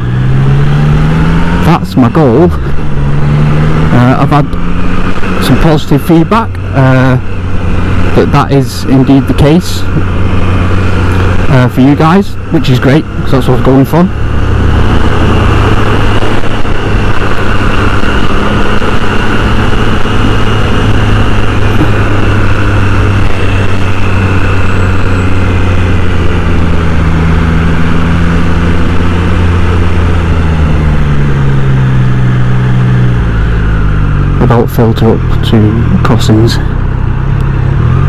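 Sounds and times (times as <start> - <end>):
motorcycle engine running: 0.0 - 38.0
road and wind noise: 0.0 - 38.0.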